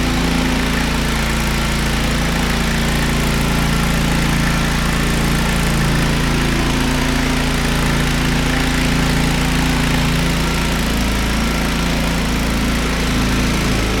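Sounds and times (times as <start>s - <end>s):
floor grinder engine running: 0.0s - 14.0s.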